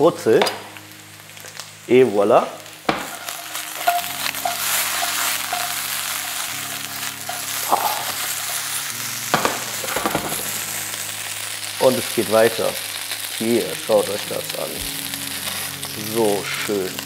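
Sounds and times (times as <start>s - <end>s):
potatoes sizzling in a pan: 0.0s - 17.0s.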